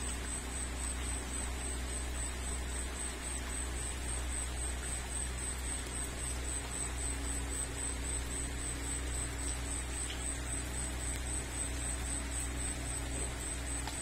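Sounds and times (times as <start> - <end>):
rain falling on garden: 0.0 - 14.0.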